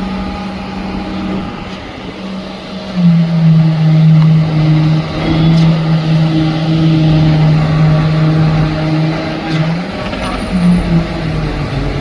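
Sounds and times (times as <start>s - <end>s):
machinery engine hum: 0.0s - 12.0s.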